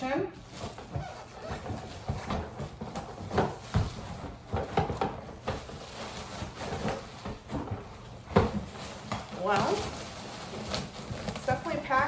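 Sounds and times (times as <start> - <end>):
cardboard and plastic being handled: 0.3 - 12.0.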